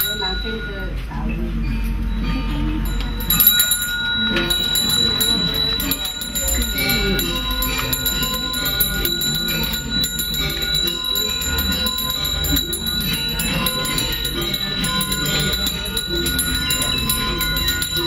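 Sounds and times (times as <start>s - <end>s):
hand bell ringing: 0.0s - 18.0s
murmur of voices: 0.0s - 18.0s.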